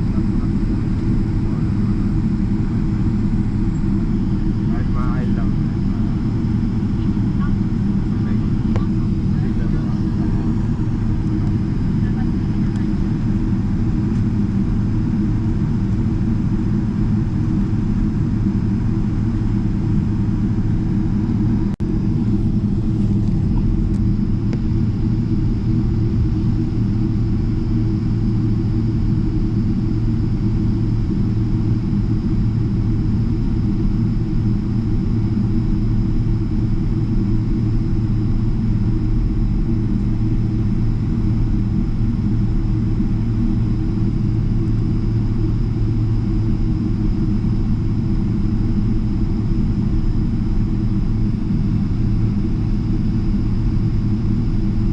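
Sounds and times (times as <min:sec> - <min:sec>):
low rumble inside aircraft cabin: 0:00.0 - 0:54.9.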